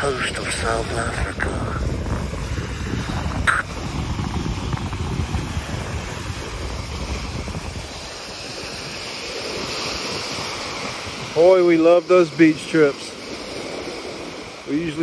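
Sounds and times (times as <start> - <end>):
small waves washing on sand: 0.0 - 15.0
wind buffeting microphone: 0.0 - 15.0.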